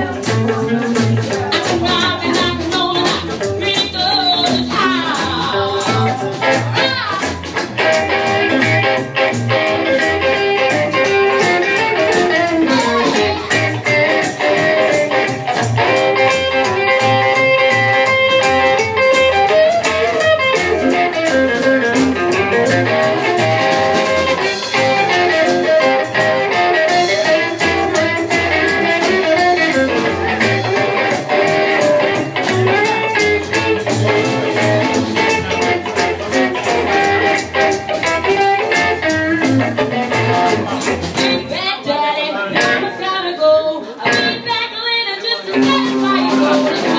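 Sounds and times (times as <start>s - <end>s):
walking upright bass: 0.0s - 44.7s, 45.4s - 46.9s
drum kit: 0.0s - 46.9s
electric guitar: 0.0s - 46.9s.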